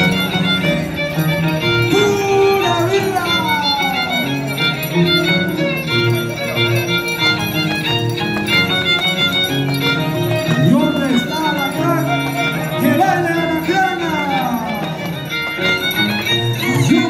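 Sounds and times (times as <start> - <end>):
violin playing quick melody: 0.0 - 17.0.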